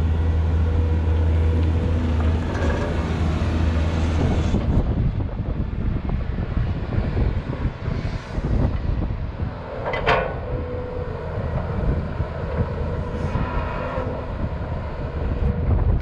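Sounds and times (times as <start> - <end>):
excavator engine and hydraulics: 0.0 - 16.0
wind rumble on microphone: 0.0 - 16.0.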